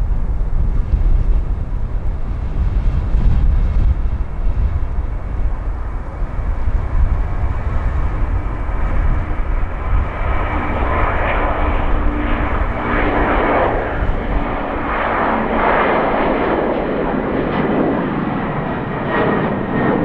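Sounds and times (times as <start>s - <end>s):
distant jet engines rumbling: 0.0s - 20.0s.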